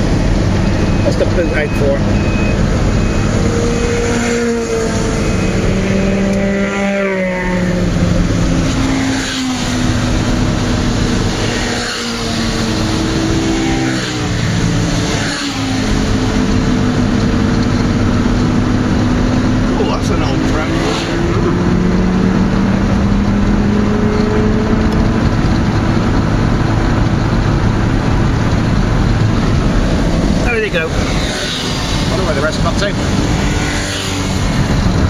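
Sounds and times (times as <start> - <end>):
car engine: 0.0 - 35.0
road noise: 0.0 - 35.0.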